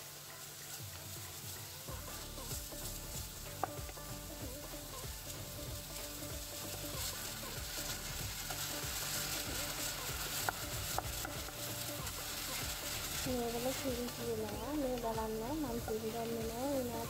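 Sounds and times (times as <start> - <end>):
meat sizzling in a frying pan: 0.0 - 17.0
spatula scraping a pan: 0.4 - 17.0.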